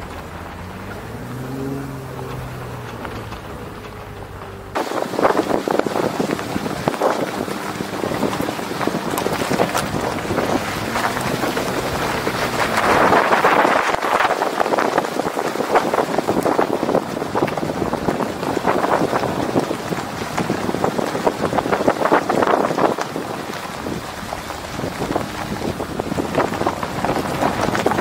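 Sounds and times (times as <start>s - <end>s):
gravel ticking: 0.0s - 28.0s
tyres crunching on dirt: 0.0s - 28.0s
wind rushing over microphone: 0.0s - 28.0s.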